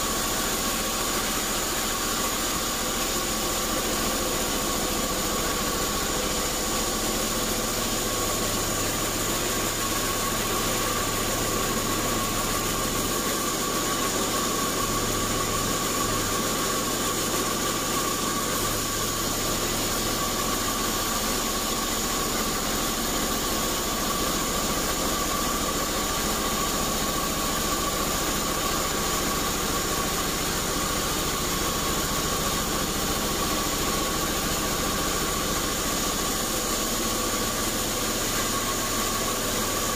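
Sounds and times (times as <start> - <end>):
steady high hum: 0.0 - 39.9.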